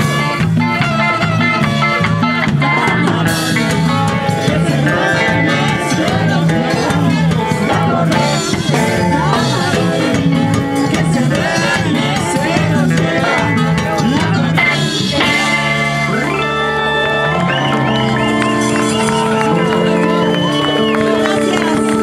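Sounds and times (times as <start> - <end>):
electric guitar: 0.0 - 22.0
live band playing latin music: 0.0 - 22.0.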